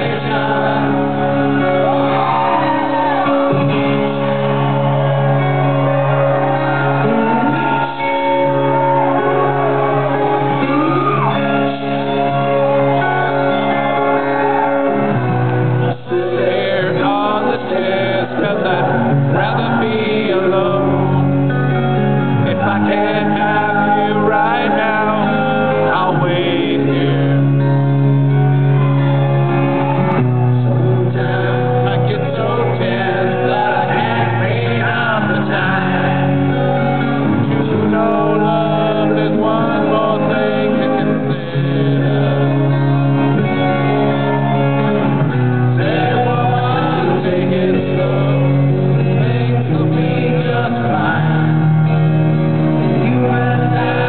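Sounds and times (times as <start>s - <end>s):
man singing lead vocal: 0.0s - 5.0s, 6.4s - 15.2s, 15.8s - 28.0s, 30.4s - 54.0s
strummed guitars: 0.0s - 54.0s.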